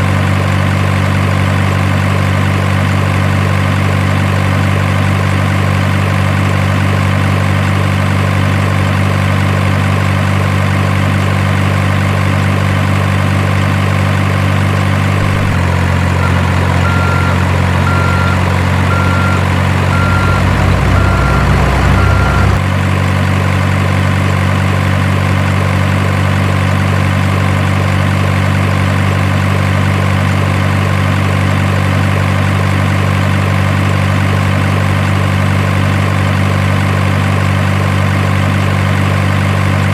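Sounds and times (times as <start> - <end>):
diesel truck engine idling and revving: 0.0 - 39.9.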